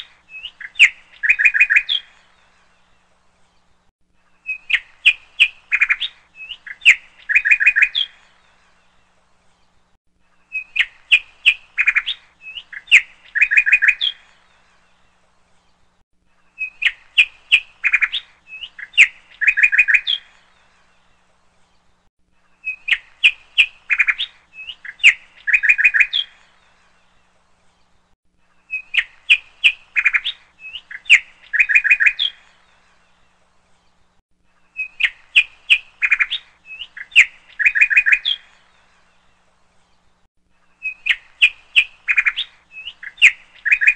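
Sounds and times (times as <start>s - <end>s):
bird chirping and trilling: 0.0s - 2.5s, 4.4s - 9.1s, 10.4s - 15.8s, 16.5s - 21.1s, 22.4s - 28.0s, 28.6s - 34.0s, 34.6s - 43.9s.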